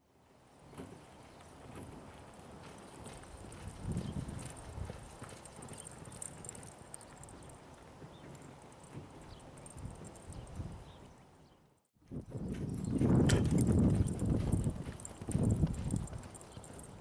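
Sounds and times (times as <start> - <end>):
horse hoofbeats: 0.8 - 11.1, 12.1 - 17.0.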